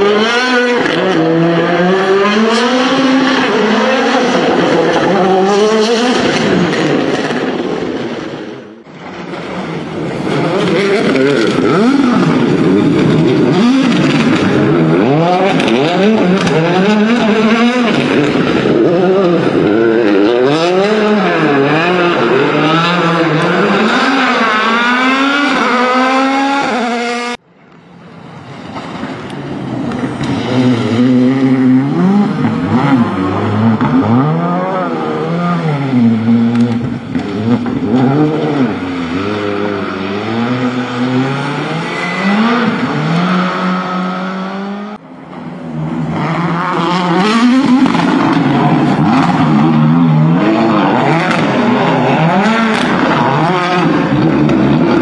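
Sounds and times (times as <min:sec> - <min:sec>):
rally car engines revving: 0:00.0 - 0:27.4, 0:28.3 - 0:55.0.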